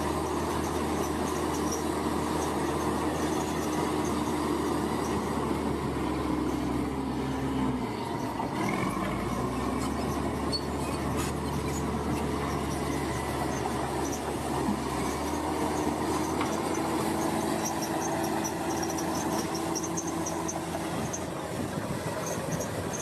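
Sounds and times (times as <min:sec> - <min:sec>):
heavy machinery engine humming: 0:00.0 - 0:23.0.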